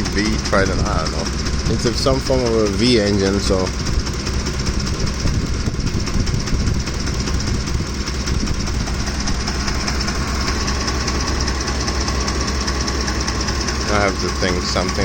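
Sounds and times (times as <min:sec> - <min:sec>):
engine running: 0:00.0 - 0:15.0
fast ticking engine rattle: 0:00.0 - 0:15.0.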